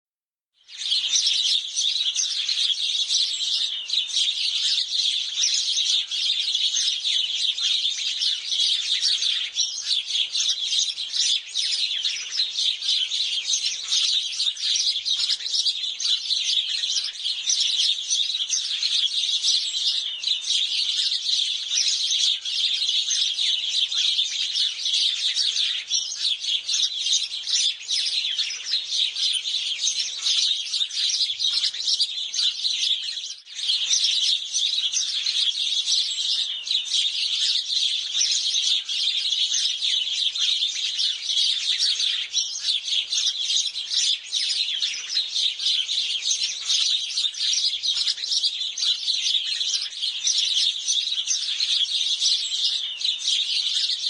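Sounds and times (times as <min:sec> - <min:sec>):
sparrows chirping: 0:00.6 - 0:54.0.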